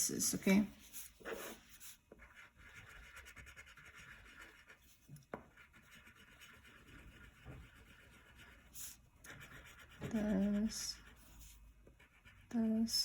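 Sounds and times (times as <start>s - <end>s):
crayon scribbling on paper: 0.2s - 13.0s.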